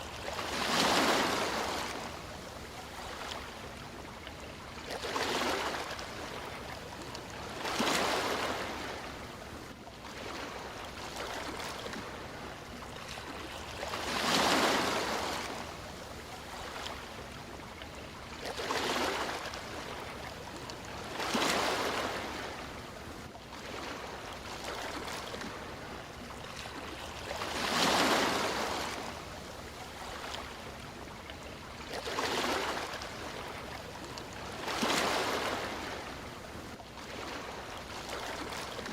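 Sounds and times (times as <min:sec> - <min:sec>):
sea waves breaking ashore: 0:00.0 - 0:38.9.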